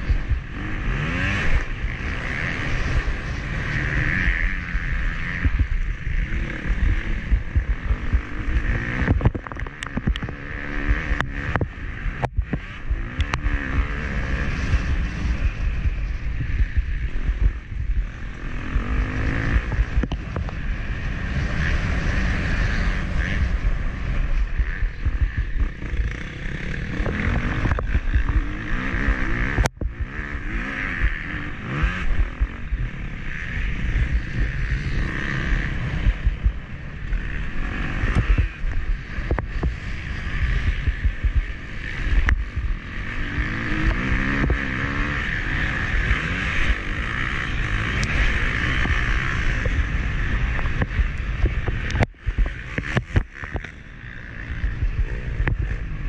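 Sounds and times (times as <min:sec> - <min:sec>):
motocross bike engine revving: 0:00.0 - 0:56.0
wind buffeting microphone: 0:00.0 - 0:56.0.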